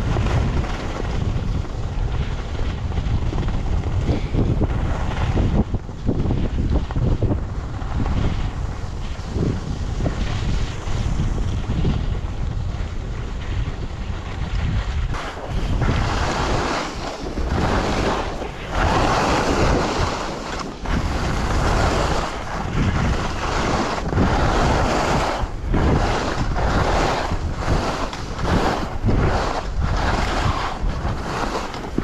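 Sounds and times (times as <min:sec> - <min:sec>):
skis hissing through snow: 0:00.0 - 0:32.0
wind rushing over microphone: 0:00.0 - 0:32.0.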